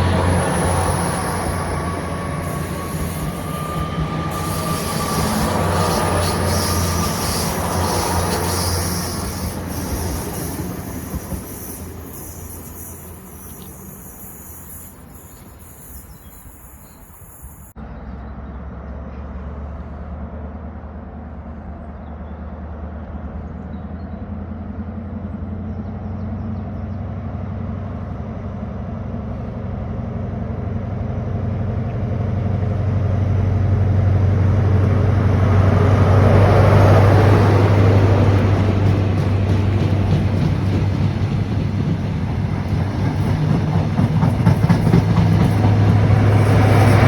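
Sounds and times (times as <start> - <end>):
diesel train engine humming: 0.0 - 47.0.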